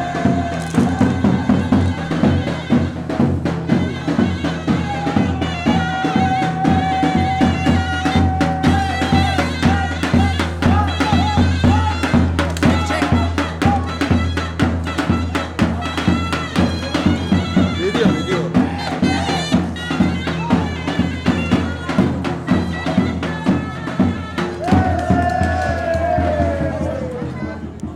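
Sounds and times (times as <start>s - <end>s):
reedy wind instrument melody: 0.0s - 27.8s
drum beats: 0.0s - 27.9s.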